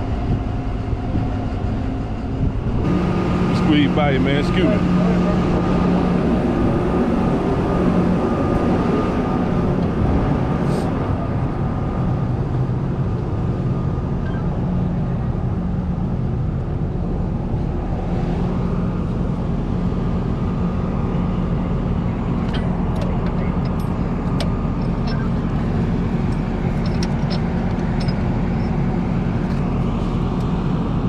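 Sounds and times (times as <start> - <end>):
diesel engine running: 0.0 - 31.0
thin steady whine: 0.0 - 31.0.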